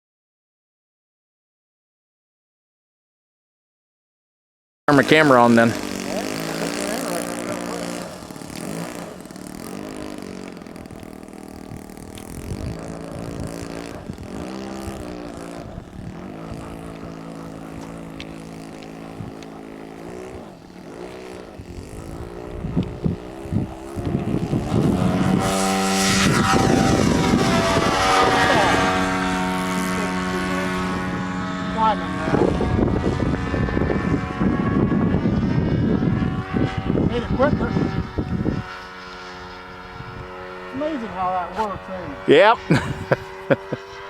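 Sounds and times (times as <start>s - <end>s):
model airplane engine and propeller: 4.9s - 44.0s.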